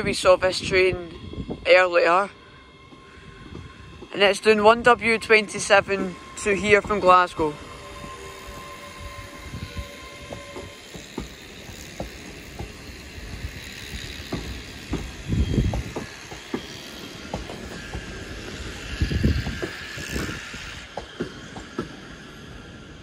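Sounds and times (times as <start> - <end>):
train wheels clicking over joints: 2.8 - 23.0.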